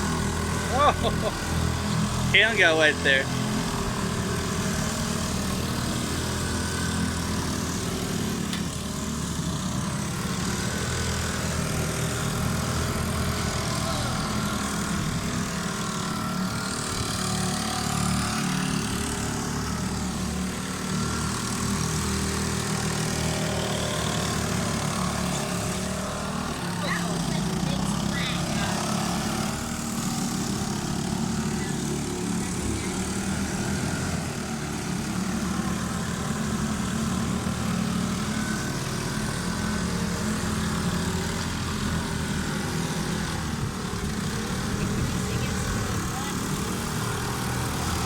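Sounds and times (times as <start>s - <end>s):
small boat engines droning: 0.0s - 48.0s.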